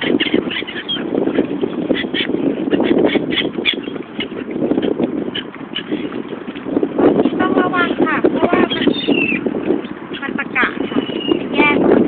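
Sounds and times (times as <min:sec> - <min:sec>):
waterbirds squawking and quacking: 0:00.0 - 0:12.0.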